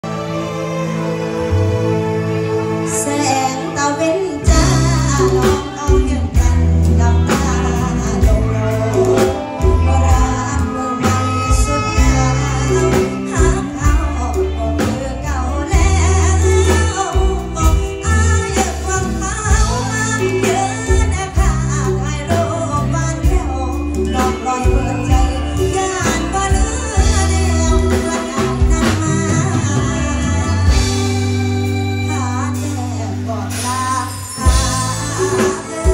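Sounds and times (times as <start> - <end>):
live band playing: 0.0 - 35.9
woman singing: 2.7 - 35.9.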